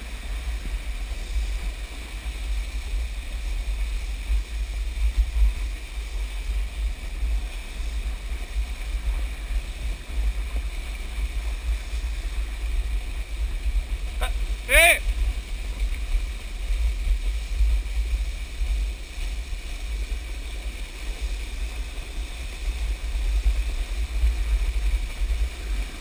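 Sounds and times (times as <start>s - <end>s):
water rushing and hissing: 0.0s - 26.0s
wind buffeting microphone: 0.0s - 26.0s.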